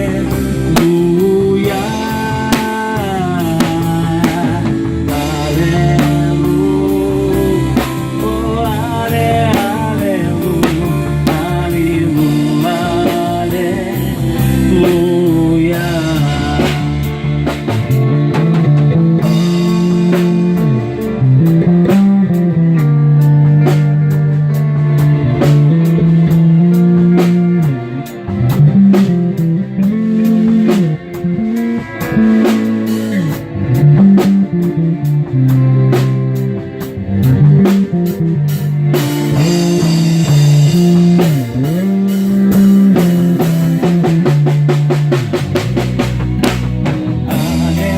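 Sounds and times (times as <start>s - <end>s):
bass line: 0.0s - 47.9s
drum kit: 0.0s - 47.9s
guitar: 0.0s - 47.9s.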